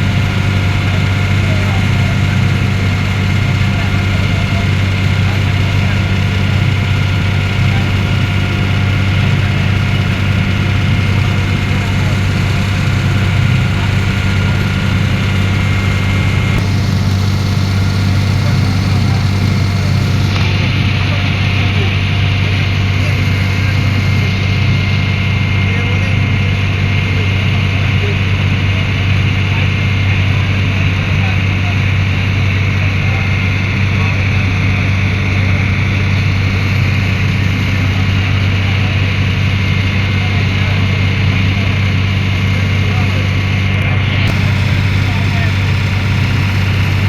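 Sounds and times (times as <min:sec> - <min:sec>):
ferry engine low hum: 0:00.0 - 0:47.0.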